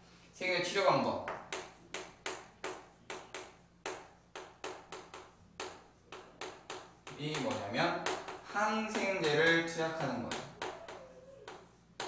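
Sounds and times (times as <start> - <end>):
chalk tapping on chalkboard: 1.0 - 12.0.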